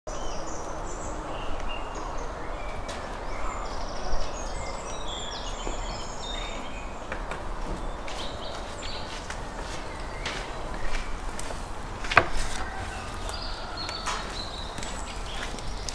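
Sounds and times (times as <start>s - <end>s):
small birds chirping and trilling: 0.1s - 15.9s
steady background noise: 0.1s - 15.9s.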